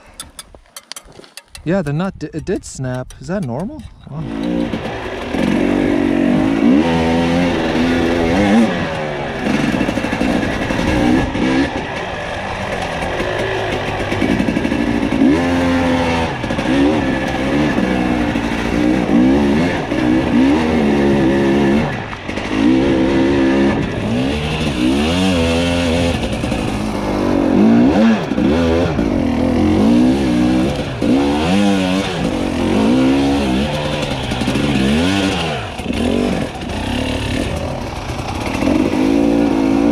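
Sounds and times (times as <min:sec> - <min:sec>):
dirt bike engine revving: 0:01.8 - 0:39.9.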